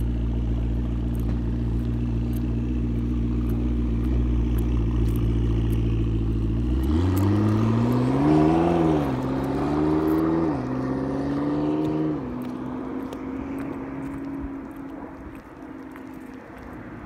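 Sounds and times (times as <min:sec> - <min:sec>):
car engine accelerating hard: 0:00.0 - 0:16.3.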